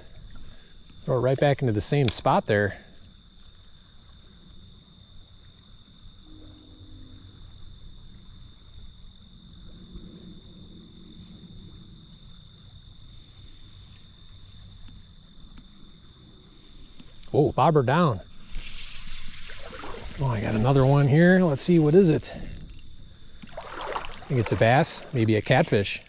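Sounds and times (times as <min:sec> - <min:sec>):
insect chorus trilling: 0:00.0 - 0:26.0.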